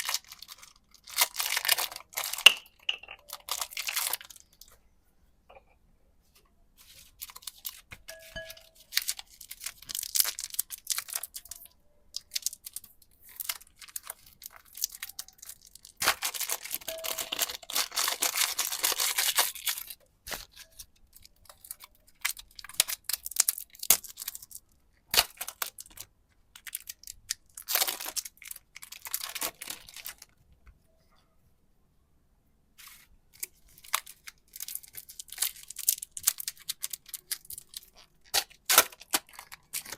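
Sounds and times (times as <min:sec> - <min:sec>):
plastic packaging tearing and crinkling: 0:00.0 - 0:02.6, 0:03.2 - 0:04.6, 0:07.0 - 0:30.3, 0:32.8 - 0:39.9.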